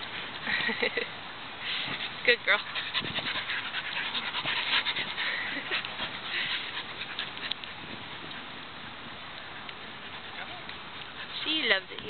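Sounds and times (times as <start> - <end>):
dog panting: 1.7 - 12.0.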